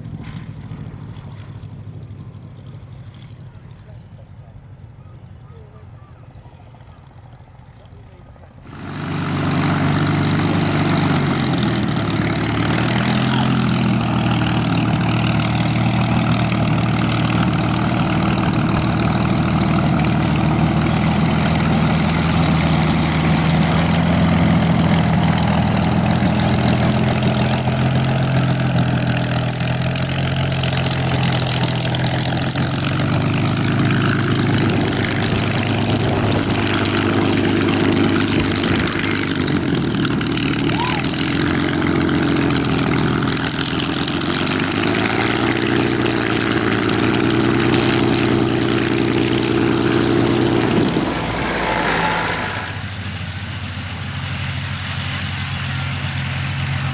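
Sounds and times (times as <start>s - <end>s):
propeller aircraft engine running: 0.0s - 56.9s.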